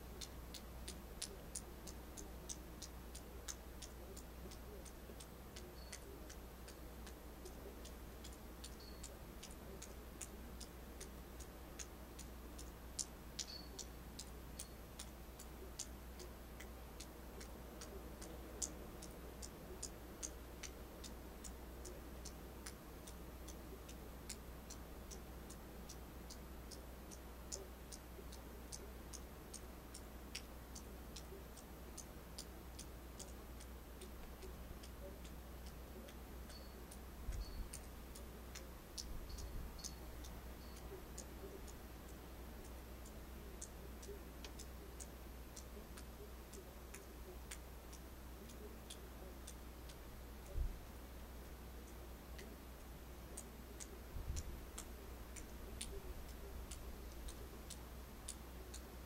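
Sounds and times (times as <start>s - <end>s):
faint high ticking: 0.0s - 59.0s
steady low hum: 0.0s - 59.0s.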